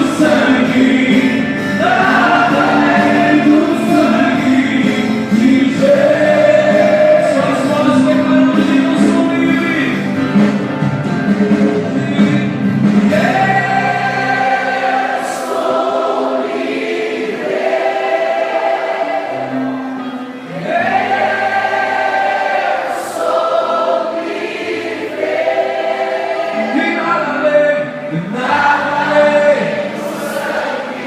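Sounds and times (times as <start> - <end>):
congregation singing worship song: 0.0 - 31.0
sustained keyboard chords: 0.0 - 31.0.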